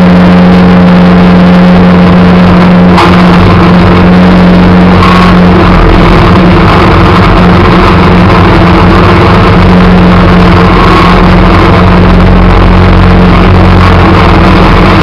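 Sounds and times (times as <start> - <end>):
snowplow engine running: 0.0 - 15.0.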